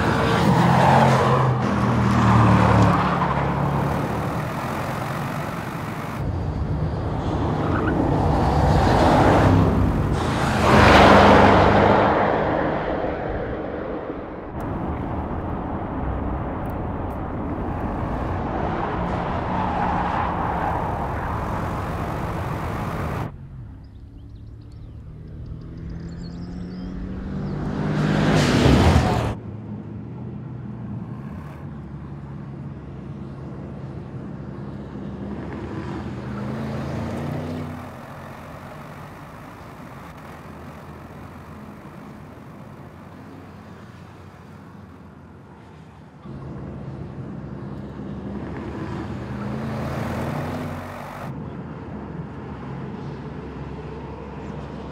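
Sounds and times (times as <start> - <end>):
car engine passing at speed: 0.0 - 24.3, 25.0 - 32.1, 35.0 - 45.4, 47.8 - 51.4.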